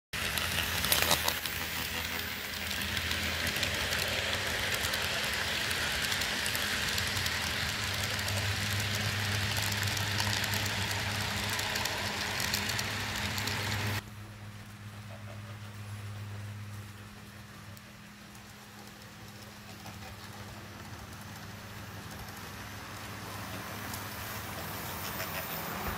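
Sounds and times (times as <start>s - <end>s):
model train rolling on track: 0.2s - 25.9s.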